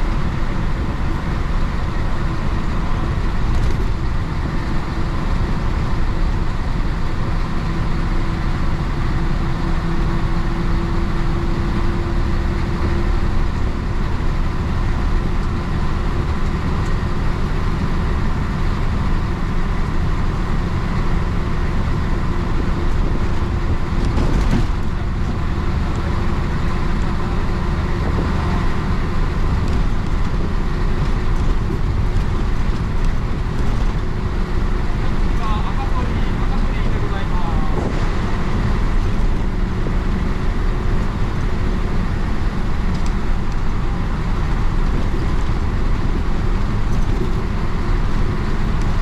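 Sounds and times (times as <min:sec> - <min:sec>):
bus diesel engine running: 0:00.0 - 0:49.0
road noise: 0:00.0 - 0:49.0.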